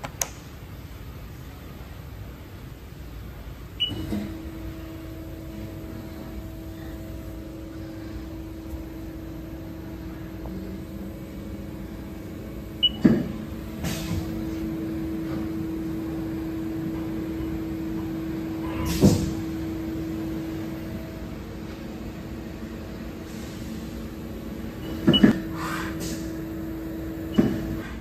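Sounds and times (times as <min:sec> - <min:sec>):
machine electrical hum: 0:00.0 - 0:28.0.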